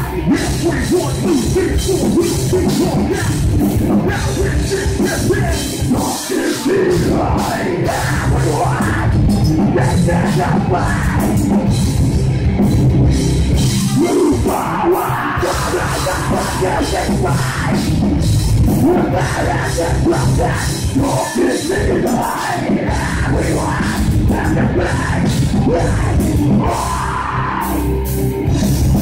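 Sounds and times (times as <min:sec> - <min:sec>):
harsh vocals: 0:00.0 - 0:11.7, 0:13.7 - 0:28.2
live heavy metal band: 0:00.0 - 0:29.0.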